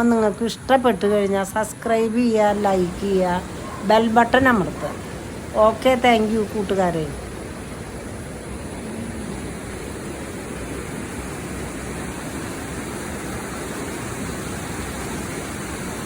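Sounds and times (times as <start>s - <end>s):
water rushing over a weir: 0.0s - 16.0s.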